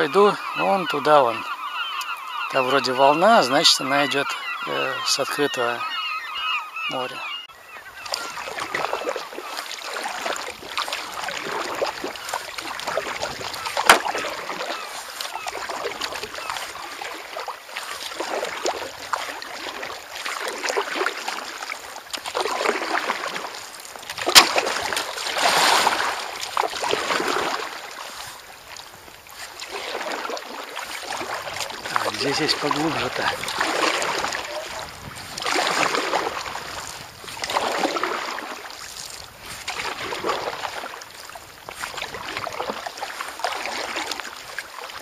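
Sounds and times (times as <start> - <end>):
gulls calling: 0.0 - 45.0
kayak paddle strokes splashing: 0.0 - 45.0.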